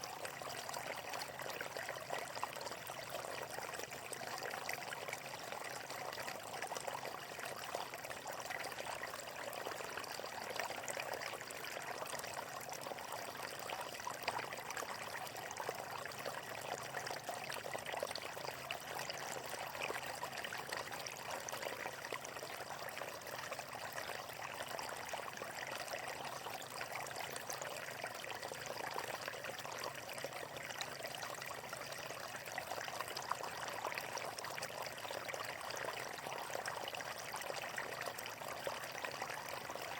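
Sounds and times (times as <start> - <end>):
water flowing over stones: 0.0 - 39.9.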